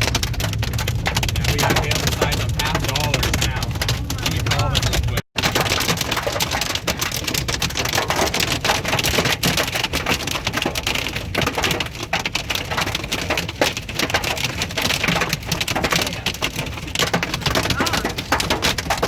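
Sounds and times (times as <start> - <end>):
hail and rain on vehicle roof: 0.0 - 19.0.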